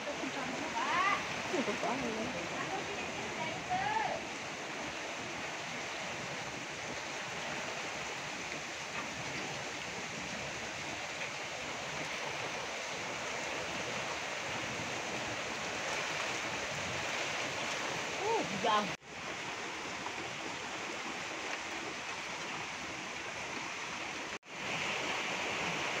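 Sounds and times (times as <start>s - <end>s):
heavy rain falling: 0.0s - 23.3s.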